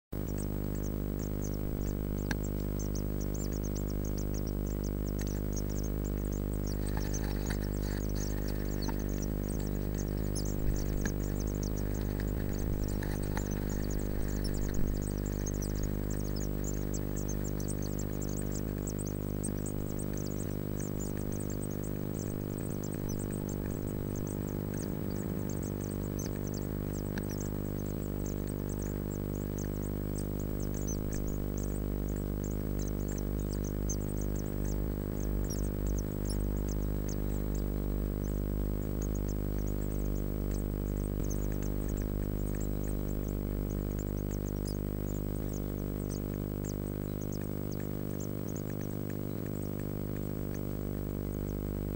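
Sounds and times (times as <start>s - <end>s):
steady low hum: 0.1s - 51.9s
nestlings cheeping: 0.2s - 51.9s.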